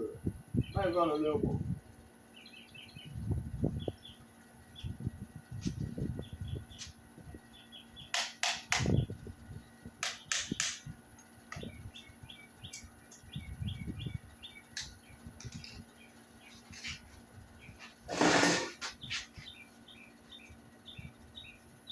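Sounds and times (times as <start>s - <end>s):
small birds chirping: 0.5s - 21.9s.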